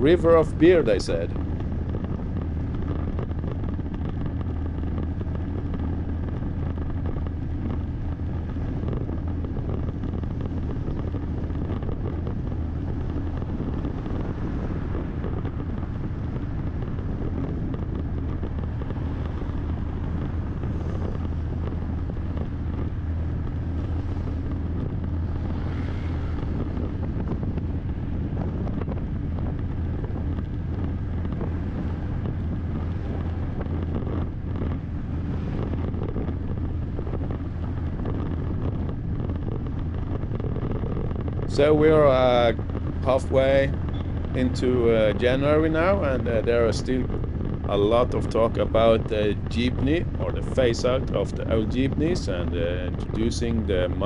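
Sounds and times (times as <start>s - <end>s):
motorbike engine running: 0.0s - 54.0s
road noise: 0.0s - 54.0s
wind rushing over microphone: 0.0s - 54.0s.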